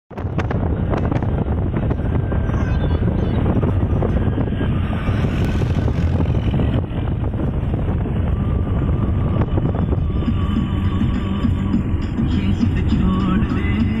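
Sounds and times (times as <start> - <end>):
vehicle driving on dirt track: 0.1 - 14.0
wind rushing over microphone: 0.1 - 14.0.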